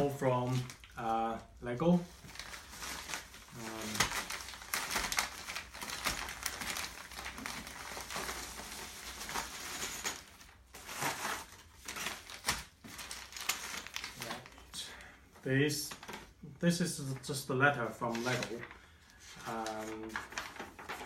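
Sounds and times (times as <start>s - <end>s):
packaging crinkling and rustling: 0.0s - 15.0s, 15.8s - 16.4s, 17.0s - 21.0s.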